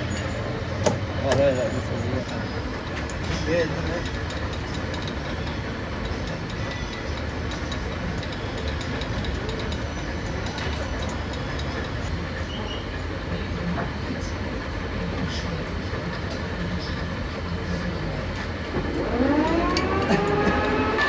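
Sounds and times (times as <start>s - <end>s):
machinery low rumble: 0.0s - 21.0s.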